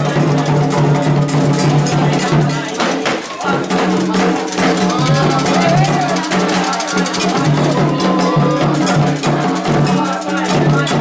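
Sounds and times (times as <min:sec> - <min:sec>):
rhythmic drumming: 0:00.0 - 0:11.0
voices singing a chant: 0:00.0 - 0:11.0.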